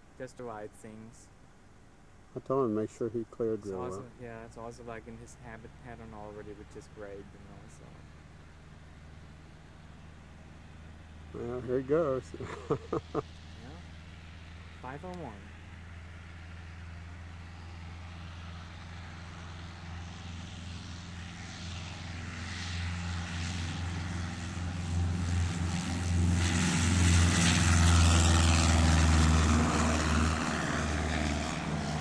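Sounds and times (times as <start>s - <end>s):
propeller plane taking off: 3.7s - 32.0s.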